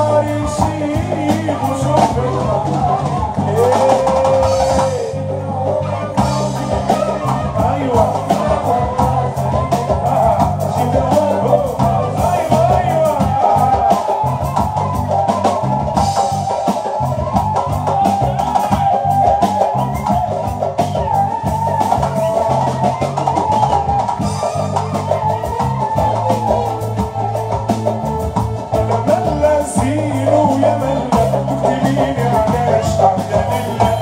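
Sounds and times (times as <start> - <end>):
drum kit and hand percussion: 0.0 - 34.0
live band music: 0.0 - 34.0.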